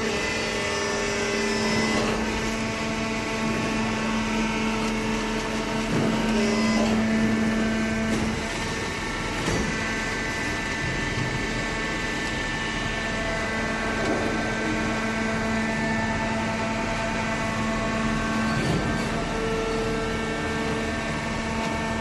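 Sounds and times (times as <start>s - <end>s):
baler motor and pump hum: 0.0s - 22.0s.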